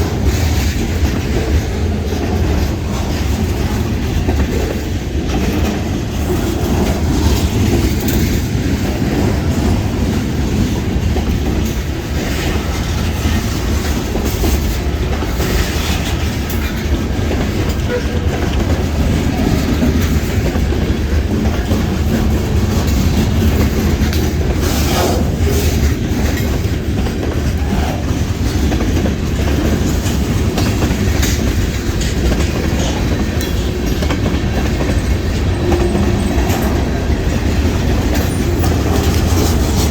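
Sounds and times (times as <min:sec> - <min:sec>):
freight train rumble: 0:00.0 - 0:39.9
train wheels clattering over rail joints: 0:00.0 - 0:39.9.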